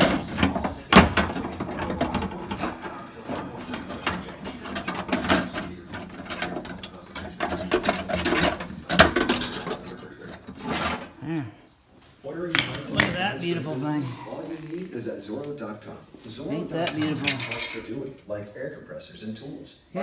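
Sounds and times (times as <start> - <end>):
sheet metal scraping and clanking: 0.0 - 11.3, 12.5 - 18.2.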